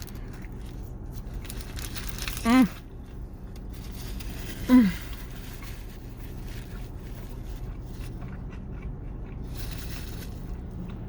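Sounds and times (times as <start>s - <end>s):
car idling hum: 0.0s - 11.0s.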